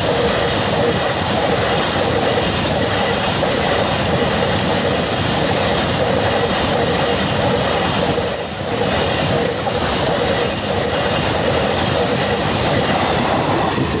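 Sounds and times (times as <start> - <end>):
freight wagons rumbling on rails: 0.0 - 14.0.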